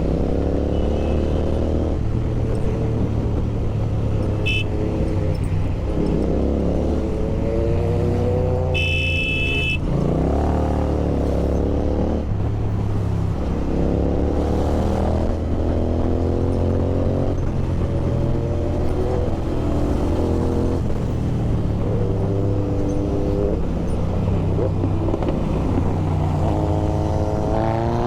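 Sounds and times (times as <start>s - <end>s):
motorcycle accelerating: 0.0s - 28.0s.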